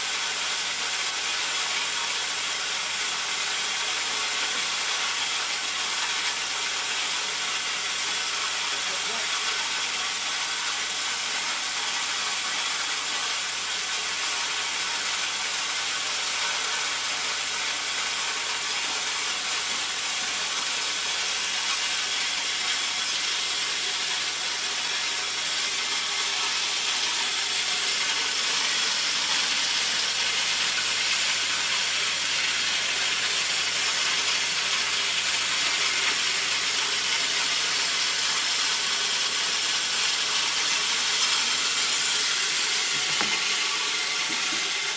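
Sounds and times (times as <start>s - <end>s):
corn grinder hissing grind: 0.0s - 44.9s.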